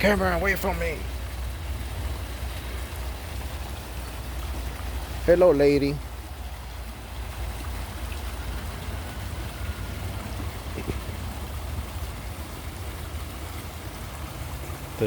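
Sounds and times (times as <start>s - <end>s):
pond fountain splashing: 0.0s - 15.0s.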